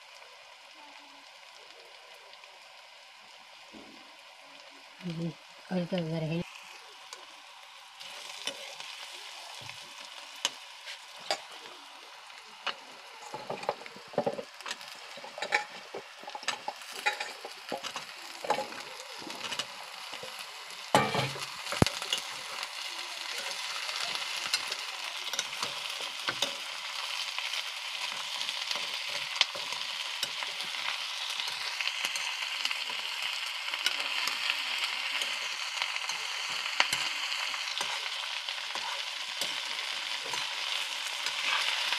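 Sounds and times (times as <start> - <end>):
onion sizzling in oil: 0.0 - 41.9.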